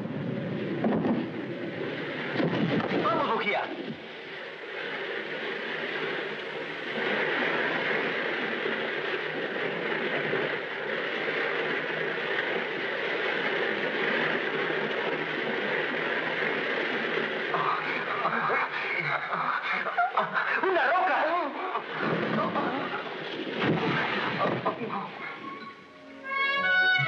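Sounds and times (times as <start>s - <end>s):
rain: 0.0s - 27.0s
waves rushing: 0.0s - 27.0s.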